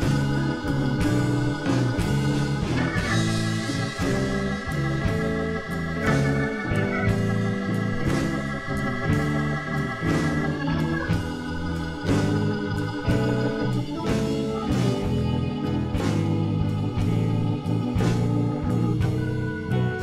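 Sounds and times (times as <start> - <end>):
drum hits: 0.0 - 19.4
bass line: 0.0 - 20.0
sustained keyboard chords: 0.0 - 20.0.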